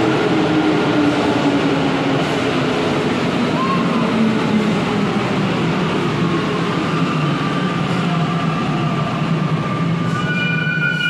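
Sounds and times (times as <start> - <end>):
high whining train tones: 0.0 - 11.0.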